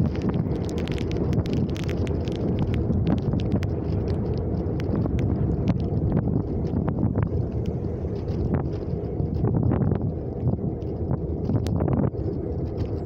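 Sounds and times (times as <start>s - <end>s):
car engine and tyre rumble: 0.0s - 13.0s
small rattles inside car: 0.0s - 13.0s.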